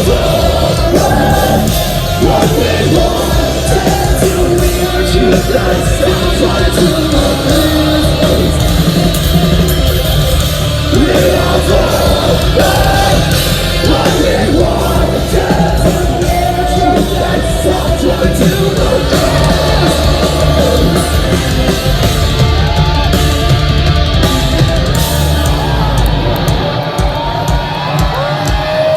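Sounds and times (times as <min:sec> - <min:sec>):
distorted electric guitars: 0:00.0 - 0:28.9
pounding drums: 0:00.0 - 0:28.9
singer yelling and singing: 0:00.0 - 0:28.9.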